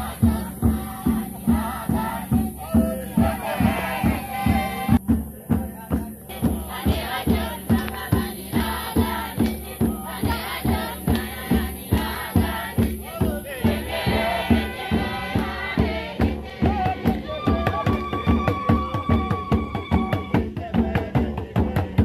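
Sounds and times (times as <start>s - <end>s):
group singing and chanting: 0.0s - 22.0s
steady drumbeat: 0.0s - 22.0s.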